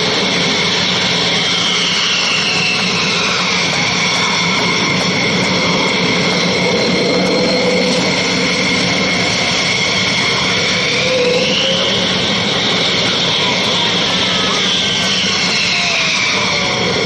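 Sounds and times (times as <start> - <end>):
high engine whine: 0.0 - 17.0
jet engines running: 0.0 - 17.0.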